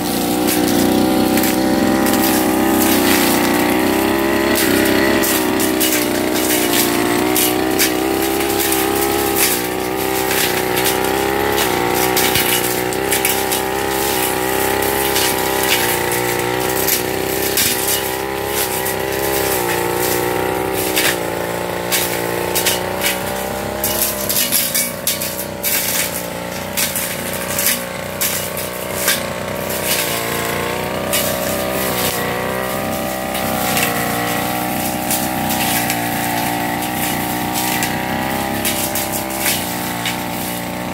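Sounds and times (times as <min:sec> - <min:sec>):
brush cutter engine running: 0:00.0 - 0:40.9
cutting head ticking on stems: 0:00.0 - 0:40.9.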